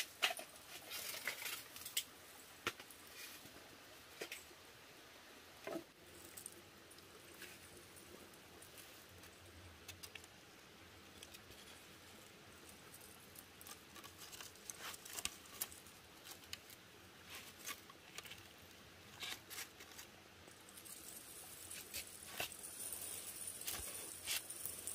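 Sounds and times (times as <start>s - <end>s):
wood fire crackling: 0.0s - 4.6s, 5.4s - 24.9s.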